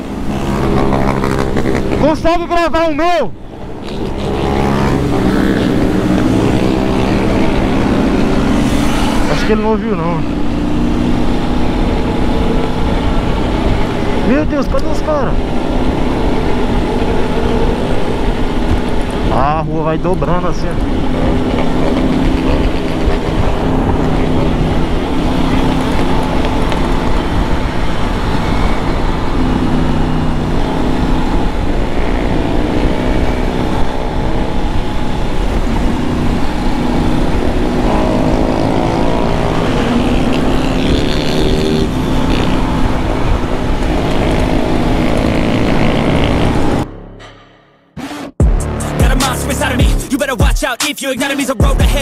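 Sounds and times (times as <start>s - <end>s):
nearby motorcycle engines: 0.0s - 47.3s
motorcycle engine drone: 0.0s - 50.4s
wind rush on microphone: 3.5s - 46.8s.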